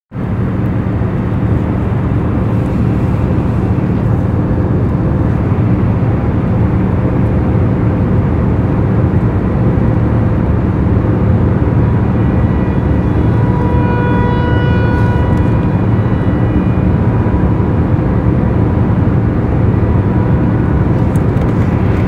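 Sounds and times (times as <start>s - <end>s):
aircraft engine droning: 0.1s - 22.0s.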